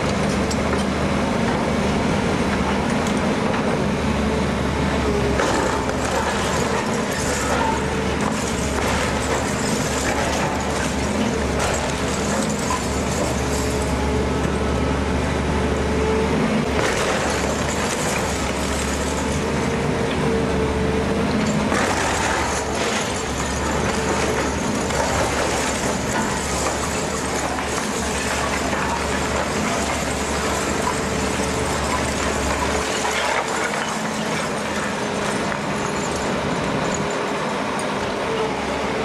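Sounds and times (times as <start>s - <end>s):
excavator diesel engine: 0.0s - 39.0s
falling masonry: 5.1s - 14.8s, 16.0s - 20.4s, 21.1s - 38.2s.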